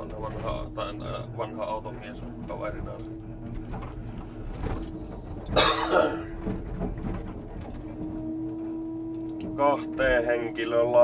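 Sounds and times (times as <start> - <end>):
truck engine drone in cab: 0.0 - 11.0.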